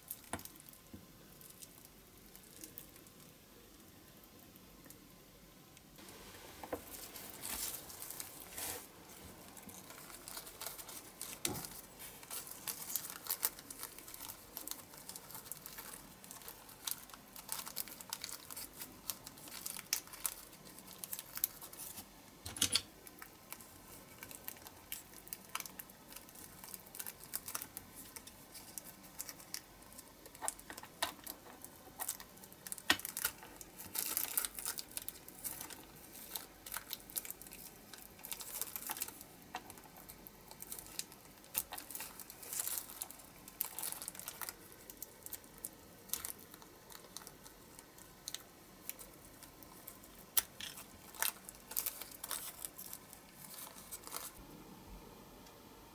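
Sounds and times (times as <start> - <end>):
plastic film crinkling: 0.0 - 4.4, 6.0 - 54.4.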